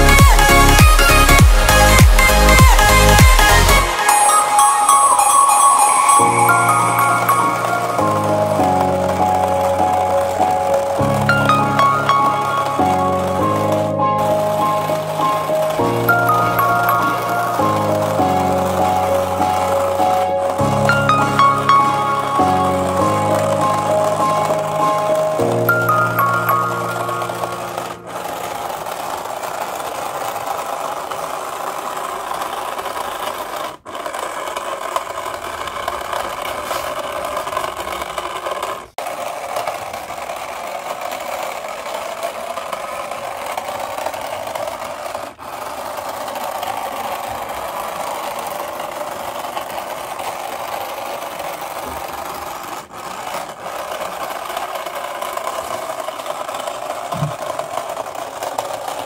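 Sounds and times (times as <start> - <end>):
toy bus electric motor running: 0.0 - 59.0.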